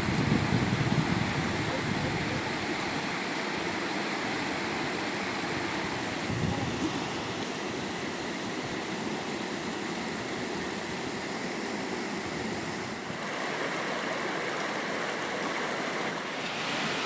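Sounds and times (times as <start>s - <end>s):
floodwater flowing: 0.0s - 17.0s.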